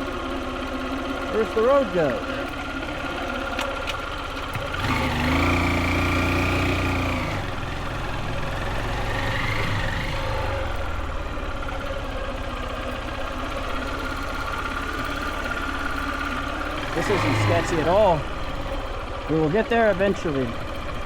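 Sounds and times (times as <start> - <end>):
motorbike engine revving: 0.0 - 21.0.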